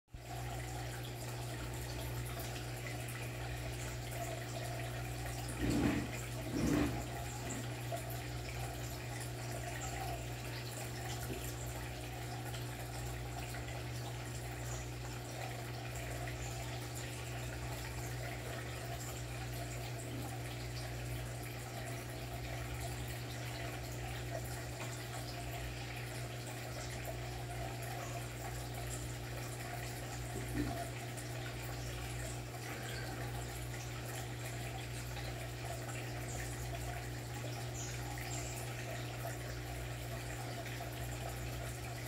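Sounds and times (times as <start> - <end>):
aquarium water trickling: 0.1 - 42.0.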